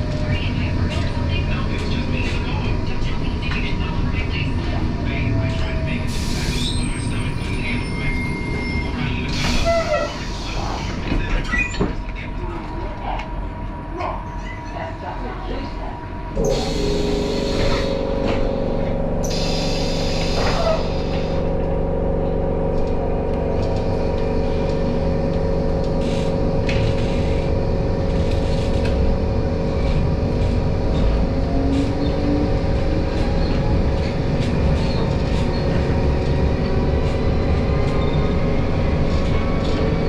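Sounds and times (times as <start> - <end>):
tram rumbling on rails: 0.0 - 40.0.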